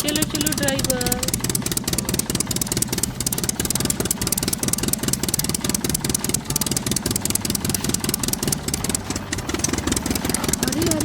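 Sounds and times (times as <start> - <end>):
vehicle engine chugging: 0.0 - 11.0.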